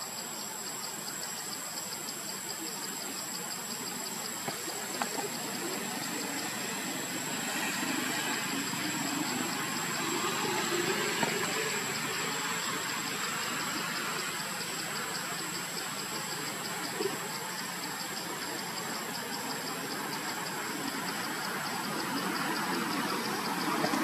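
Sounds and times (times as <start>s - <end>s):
insects high whine: 0.0s - 24.0s
insects pulsing chirp: 0.0s - 24.0s.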